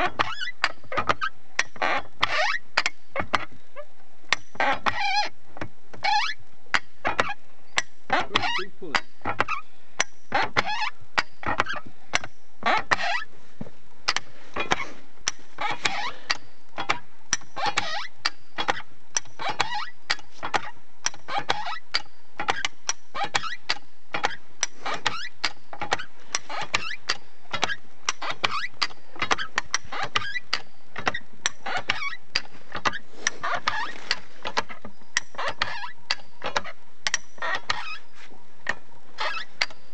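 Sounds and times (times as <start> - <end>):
hand winch clicking and clanking: 0.0 - 13.3, 14.1 - 39.9
squeaking: 0.0 - 13.3, 14.0 - 39.9.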